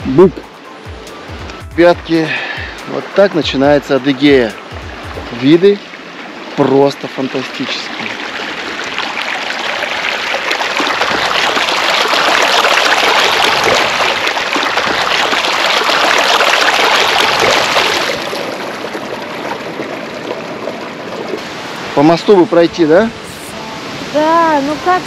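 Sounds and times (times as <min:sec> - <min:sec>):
river water rushing: 0:00.4 - 0:25.0.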